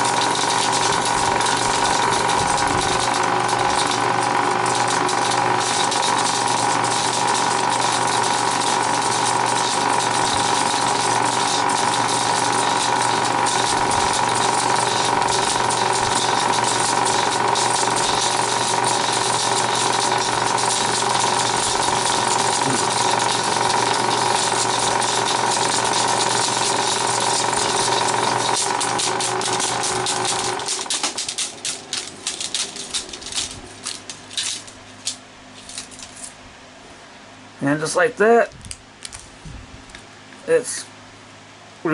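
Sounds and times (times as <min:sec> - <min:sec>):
film projector whirring: 0:00.0 - 0:36.4
projector clicks and rattles: 0:00.0 - 0:36.4.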